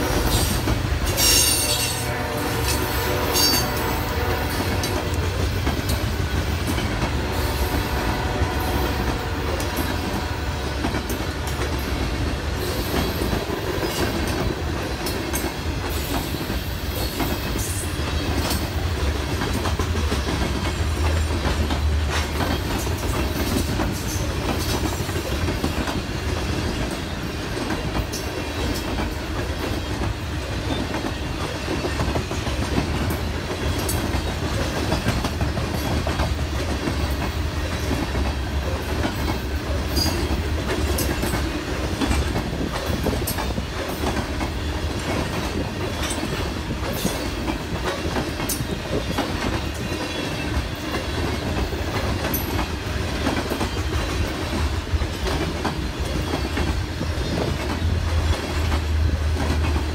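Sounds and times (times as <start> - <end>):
freight train wheels rumbling: 0.0 - 59.9
wheels clacking over rail joints: 0.0 - 59.9.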